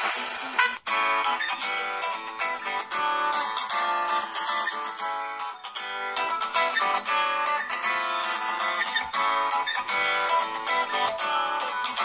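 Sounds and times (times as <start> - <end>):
phone ringtone guitar notes: 0.8 - 12.0.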